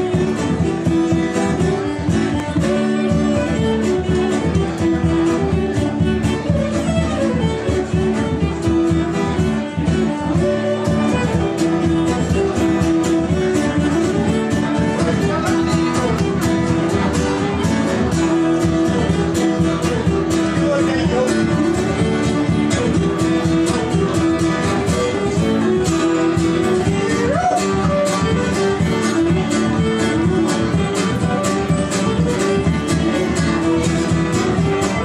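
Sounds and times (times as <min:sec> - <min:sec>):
acoustic guitar: 0:00.0 - 0:35.0
fiddle melody: 0:00.0 - 0:35.0
frame drum beat: 0:00.0 - 0:35.0.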